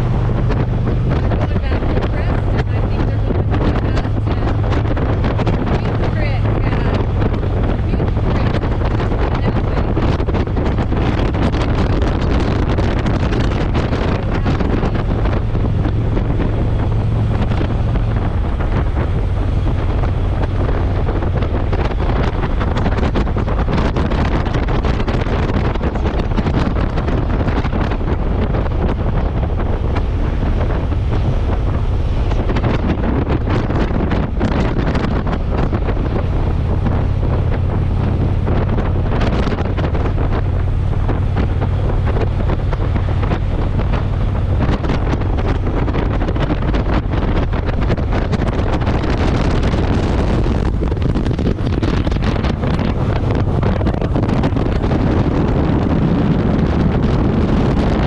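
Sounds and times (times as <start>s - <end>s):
motorcycle engine droning: 0.0s - 58.0s
wind rushing over microphone: 0.0s - 58.0s.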